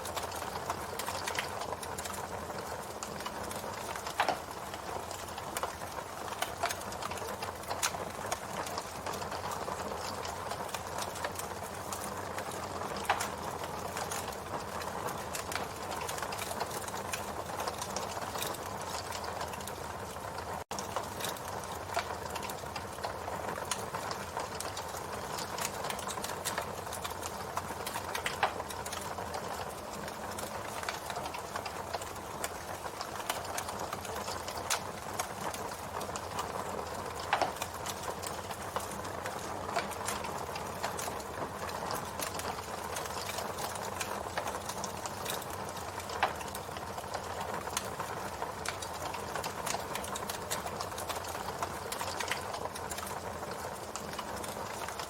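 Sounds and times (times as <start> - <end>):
campfire crackling: 0.0 - 55.0
campfire popping: 0.0 - 55.0.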